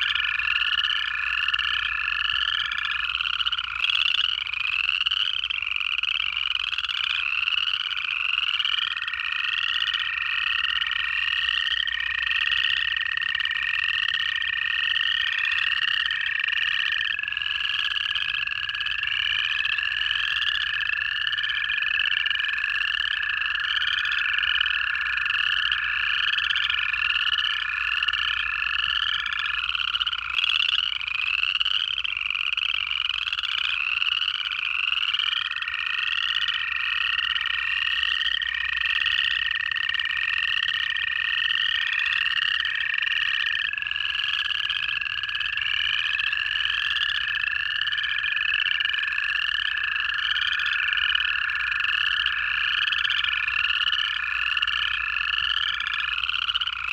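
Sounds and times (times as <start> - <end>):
frogs trilling: 0.0 - 56.9
toad long steady trill: 0.0 - 56.9.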